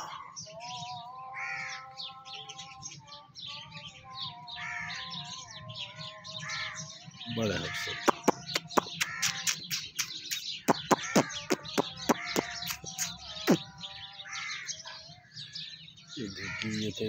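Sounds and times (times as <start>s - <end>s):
birds chirping: 0.0s - 17.0s
birds' arched calls: 0.0s - 17.0s.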